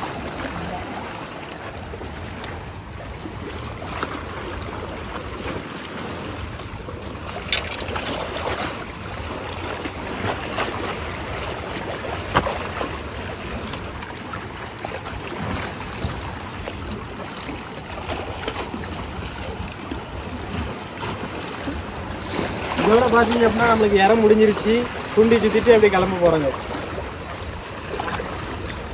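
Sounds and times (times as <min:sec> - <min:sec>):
waves washing against rocks: 0:00.0 - 0:28.9.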